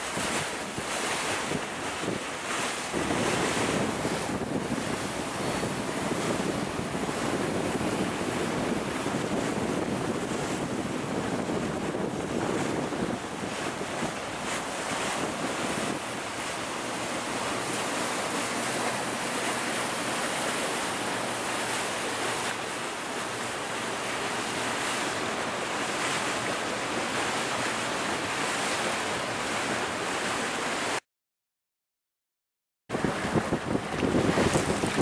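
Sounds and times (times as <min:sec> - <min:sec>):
wind buffeting microphone: 0:00.0 - 0:26.6, 0:32.9 - 0:35.0
water rushing past boat: 0:00.0 - 0:31.0, 0:32.9 - 0:35.0.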